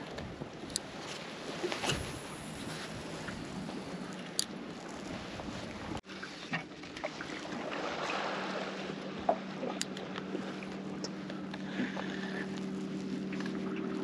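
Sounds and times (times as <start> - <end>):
water around boat: 0.0 - 14.0
wind: 0.0 - 14.0
steady low hum: 0.3 - 14.0.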